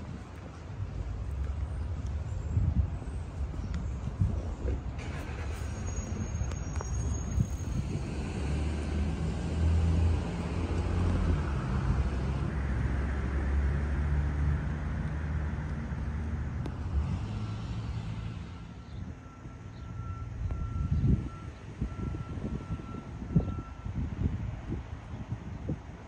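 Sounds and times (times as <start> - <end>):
vehicle engine and tyre rumble: 0.0 - 26.0.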